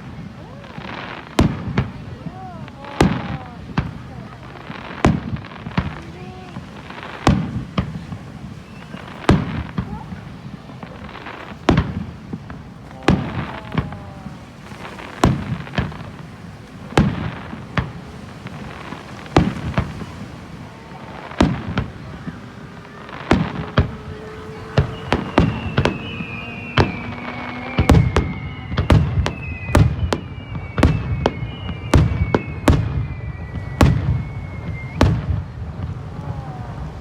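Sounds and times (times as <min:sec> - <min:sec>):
fireworks bursting with echo: 0:00.0 - 0:37.0
fireworks whistling: 0:00.0 - 0:37.0.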